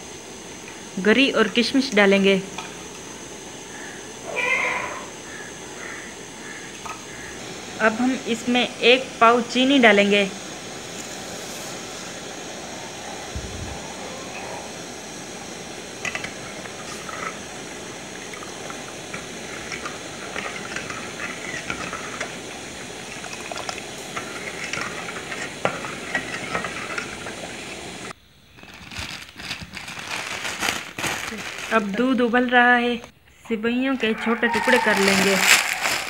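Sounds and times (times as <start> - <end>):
milk hissing on a stove: 0.0 - 32.2, 34.4 - 36.0.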